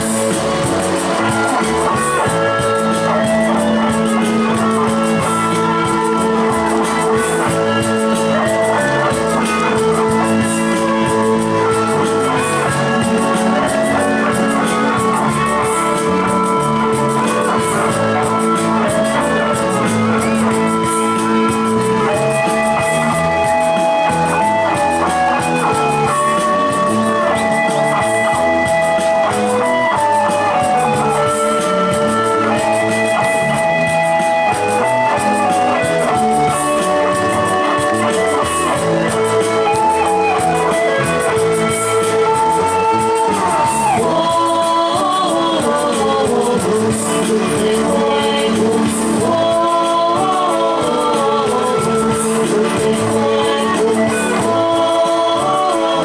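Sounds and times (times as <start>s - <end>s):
rock song with singing: 0.0s - 56.0s.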